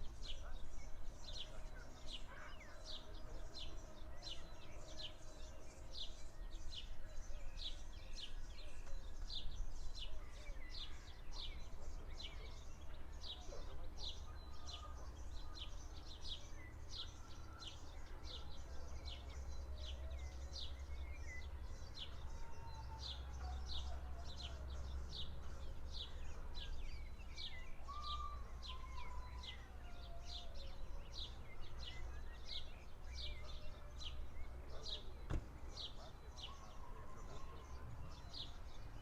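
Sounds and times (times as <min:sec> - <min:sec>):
bird chirping: 0:00.0 - 0:39.0.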